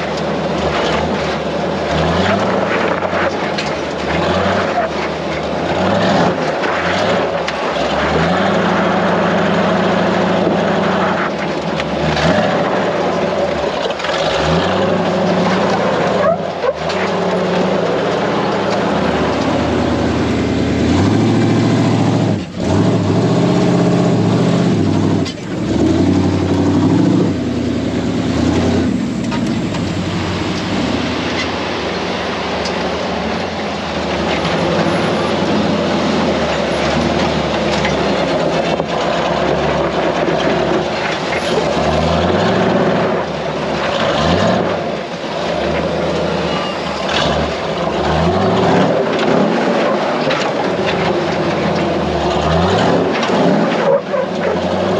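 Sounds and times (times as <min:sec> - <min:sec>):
off-road truck engine revving: 0:00.0 - 0:54.9.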